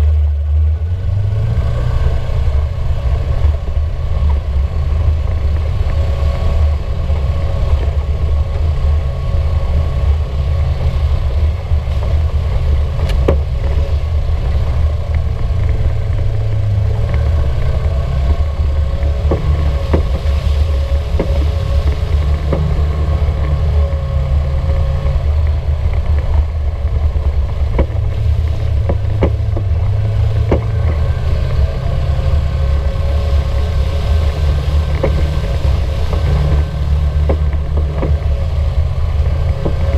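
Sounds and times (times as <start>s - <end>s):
side-by-side engine rumbling: 0.0s - 39.9s.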